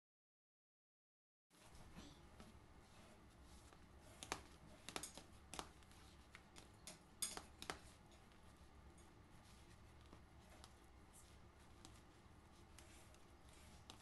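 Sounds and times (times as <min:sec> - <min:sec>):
fork mashing bananas in a bowl: 0:01.6 - 0:14.0.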